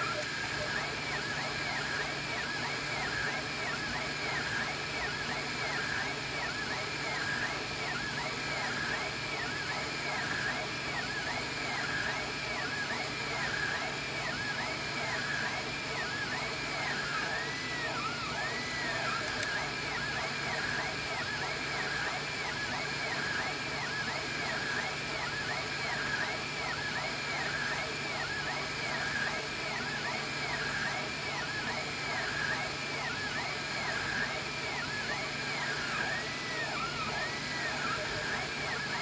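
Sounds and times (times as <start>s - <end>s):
stepper motors whining: 0.0s - 39.0s.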